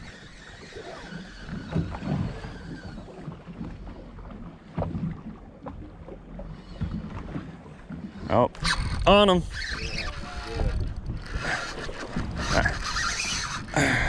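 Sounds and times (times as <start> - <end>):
water against boat hull: 0.0 - 14.0
wind: 0.0 - 14.0.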